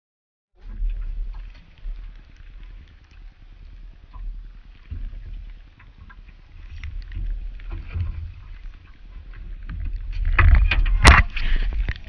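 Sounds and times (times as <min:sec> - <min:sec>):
water noise: 0:00.6 - 0:12.0
wind: 0:00.6 - 0:12.0.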